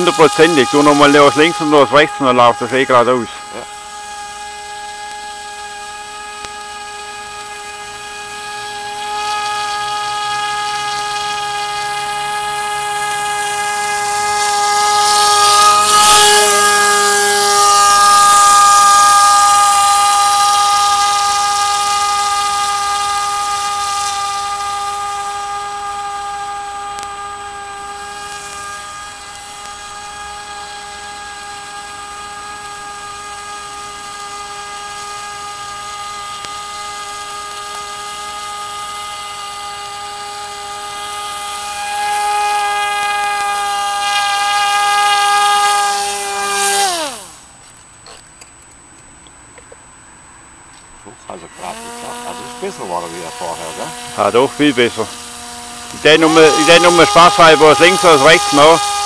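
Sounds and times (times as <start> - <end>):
model boat motor whining: 0.0 - 48.2, 51.1 - 59.0.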